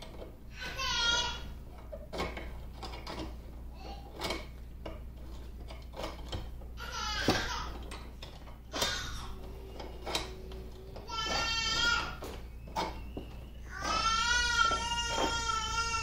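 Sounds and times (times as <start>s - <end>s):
metal clicks and knocks: 0.0s - 0.4s, 1.0s - 16.0s.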